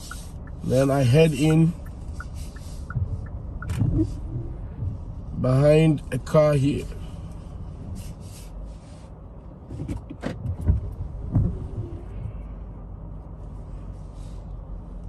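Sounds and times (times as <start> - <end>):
car idling from inside cabin: 0.0 - 15.0.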